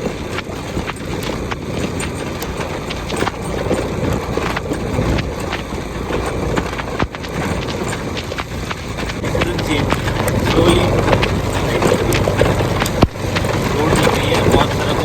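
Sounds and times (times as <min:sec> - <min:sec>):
raindrops tapping microphone: 0:00.0 - 0:15.0
wind and motorbike engine rumble: 0:00.0 - 0:15.0.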